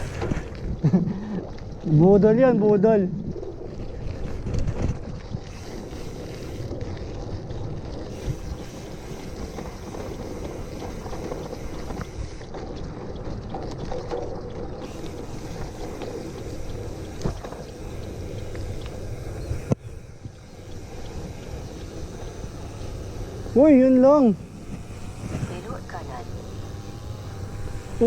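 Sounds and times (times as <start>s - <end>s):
wind on microphone: 0.0s - 2.2s, 3.0s - 28.0s
bike tyres rolling on gravel: 0.0s - 28.0s.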